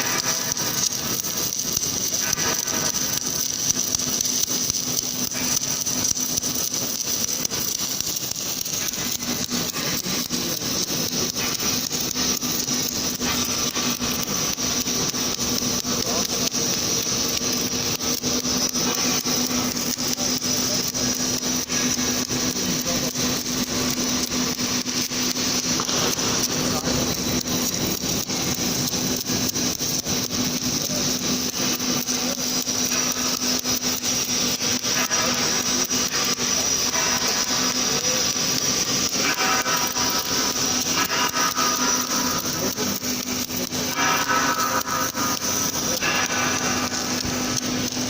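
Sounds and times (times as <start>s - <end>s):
welding equipment humming: 0.0s - 48.0s.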